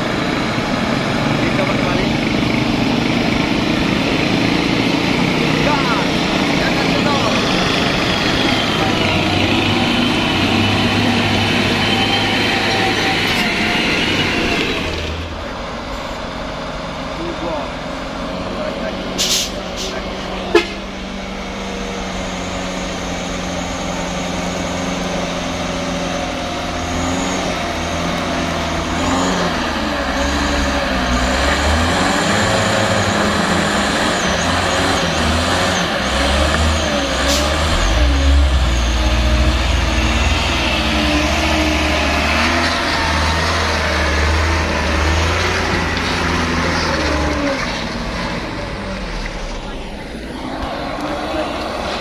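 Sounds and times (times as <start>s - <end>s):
diesel truck engine labouring: 0.0s - 52.0s.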